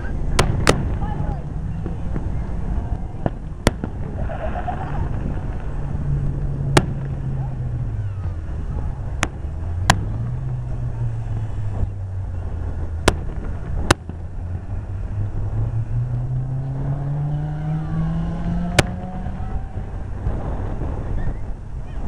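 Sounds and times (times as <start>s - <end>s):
fireworks bangs: 0.0s - 15.2s, 18.7s - 21.9s
low drone: 0.0s - 21.9s.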